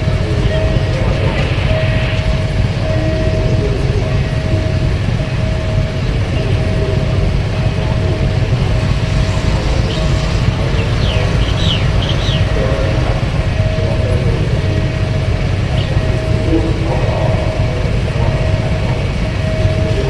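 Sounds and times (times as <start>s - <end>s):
constant high tone: 0.0s - 20.0s
train rumbling past: 0.0s - 20.0s.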